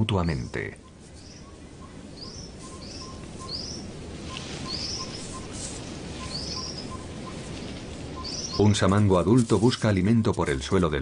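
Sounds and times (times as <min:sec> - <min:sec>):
forest bird chirping: 0:00.0 - 0:09.8.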